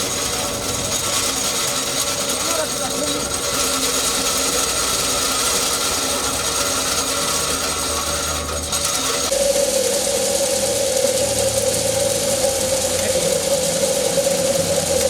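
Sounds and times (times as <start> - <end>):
machine rasping rattle: 0.0 - 15.0
strong steady hum: 0.0 - 15.0.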